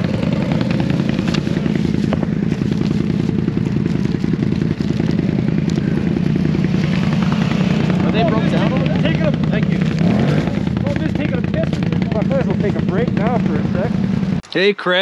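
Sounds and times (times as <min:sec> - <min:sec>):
atv engine idling: 0:00.0 - 0:14.4.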